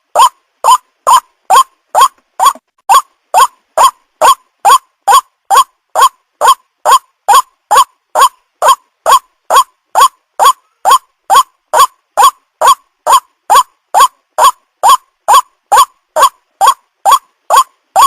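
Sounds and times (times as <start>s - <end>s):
upward-sweeping bird calls: 0.1s - 18.0s.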